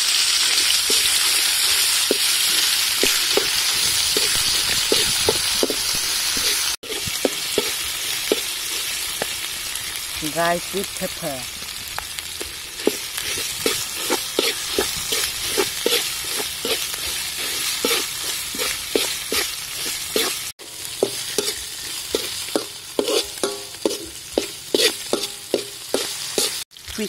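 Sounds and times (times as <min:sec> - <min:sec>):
spice paste sizzling in oil: 0:00.0 - 0:27.0
metal spatula scraping wok: 0:00.6 - 0:11.3, 0:12.2 - 0:26.6.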